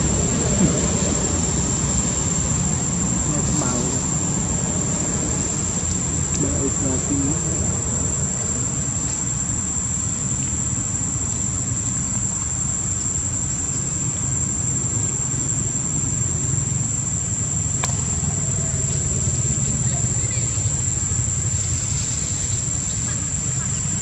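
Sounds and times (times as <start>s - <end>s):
insects droning: 0.0s - 24.0s
low steady rumble: 0.0s - 24.0s.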